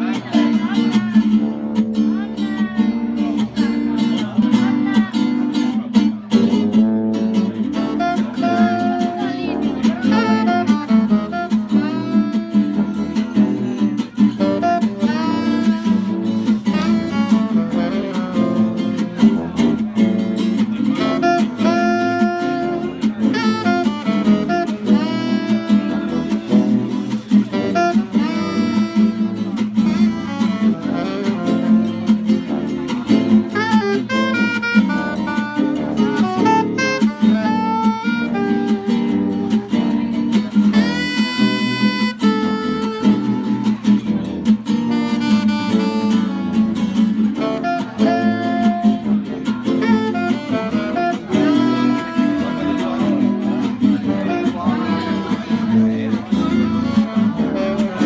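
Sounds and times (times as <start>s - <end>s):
acoustic guitar strumming: 0.0s - 58.0s
alto saxophone melody: 0.0s - 58.0s
tuba bass line: 1.3s - 2.4s, 6.1s - 58.0s.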